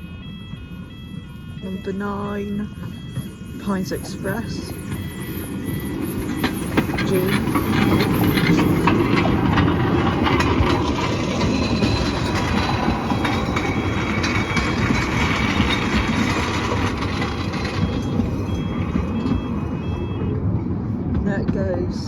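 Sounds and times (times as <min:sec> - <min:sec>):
train rumbling: 0:00.0 - 0:22.0
wheels clicking over rail joints: 0:00.0 - 0:22.0.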